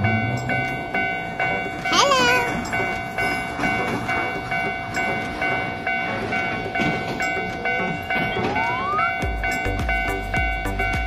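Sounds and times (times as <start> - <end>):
level crossing warning bell ringing: 0.0 - 11.0
passing train running: 0.0 - 11.0.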